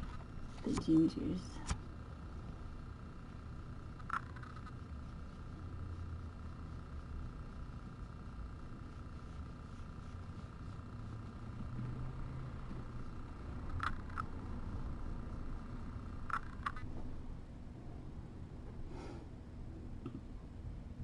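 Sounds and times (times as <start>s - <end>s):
faint steady hum: 0.0s - 21.0s
steady low rumble: 0.0s - 21.0s.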